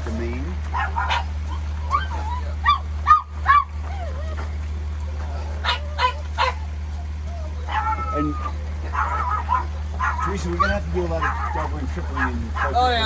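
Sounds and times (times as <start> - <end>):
steady low hum: 0.0 - 13.0
small dogs yipping: 0.7 - 4.6, 5.3 - 13.0.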